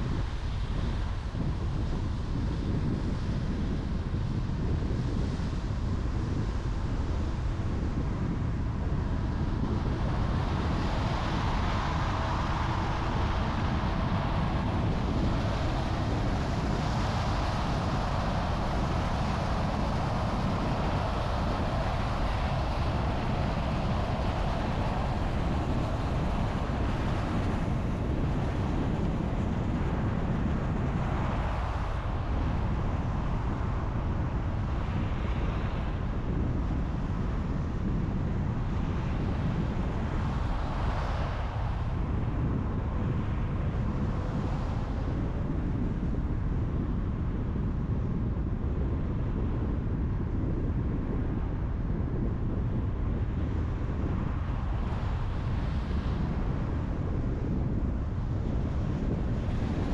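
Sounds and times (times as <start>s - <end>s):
wind noise: 0.0s - 59.9s.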